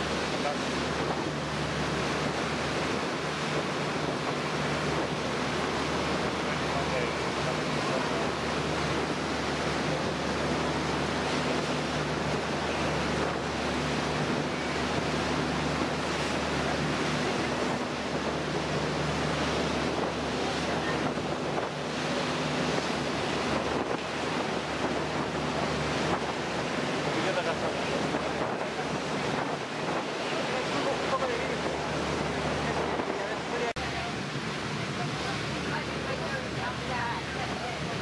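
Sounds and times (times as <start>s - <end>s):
boat engine humming: 0.0s - 38.0s
water churning in boat wake: 0.0s - 38.0s
wind buffeting microphone: 0.0s - 38.0s.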